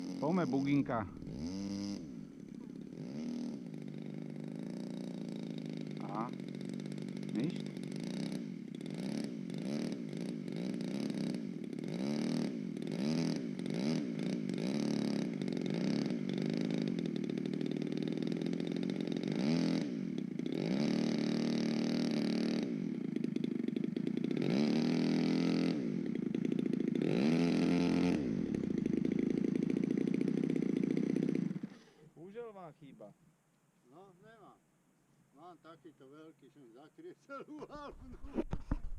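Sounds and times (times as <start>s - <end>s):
small engine revving: 0.0s - 32.0s.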